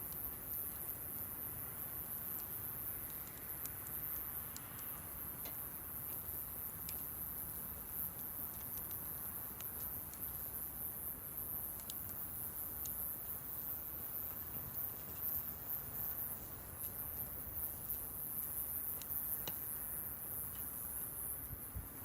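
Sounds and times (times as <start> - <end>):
campfire hissing: 0.0 - 22.0
wood crackling and popping: 0.0 - 22.0.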